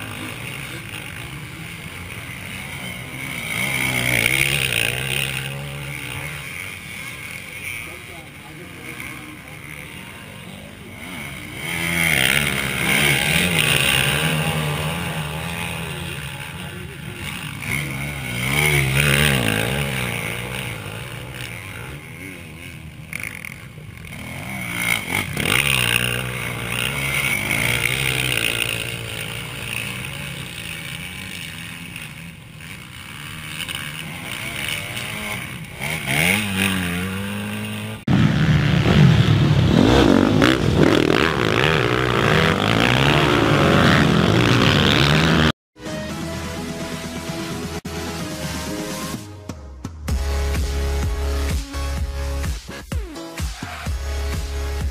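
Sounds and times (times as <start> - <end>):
dirt bike engines revving: 0.0 - 45.6, 50.1 - 54.9.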